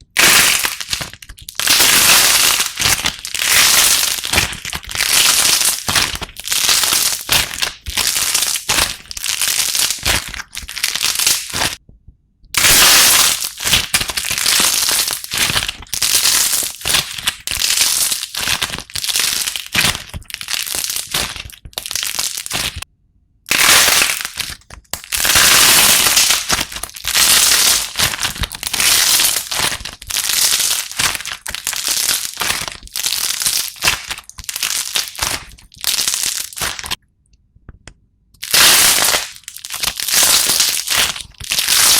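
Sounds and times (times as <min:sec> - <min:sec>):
slime crackling and popping: 0:00.0 - 0:11.8, 0:12.5 - 0:22.8, 0:23.5 - 0:37.0, 0:38.4 - 0:41.9.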